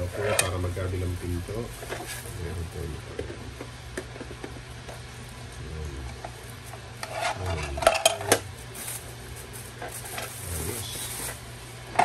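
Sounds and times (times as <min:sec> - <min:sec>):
plastic wrapping crinkling: 0:00.0 - 0:05.4, 0:06.0 - 0:12.0.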